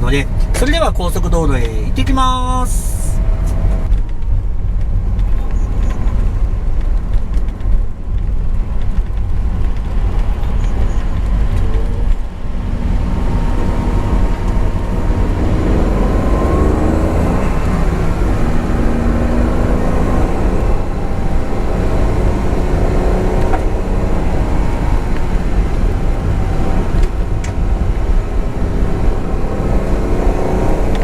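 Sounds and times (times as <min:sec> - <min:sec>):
car engine rumbling: 0:00.0 - 0:31.0
road noise: 0:00.0 - 0:31.0.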